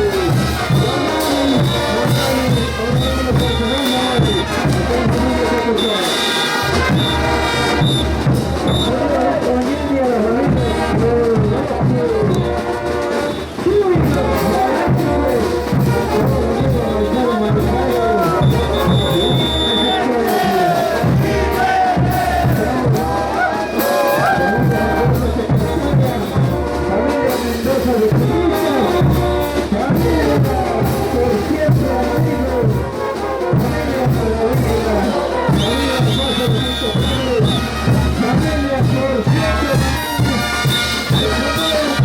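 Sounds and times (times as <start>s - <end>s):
bass drum beat: 0.0s - 6.0s, 6.6s - 42.0s
brass band melody: 0.0s - 42.0s.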